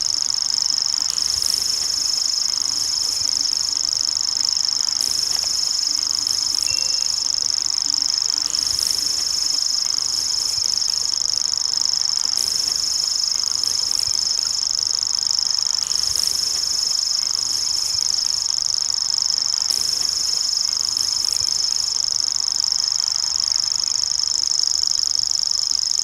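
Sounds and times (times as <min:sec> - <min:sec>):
bird reeling trill: 0:00.0 - 0:24.2.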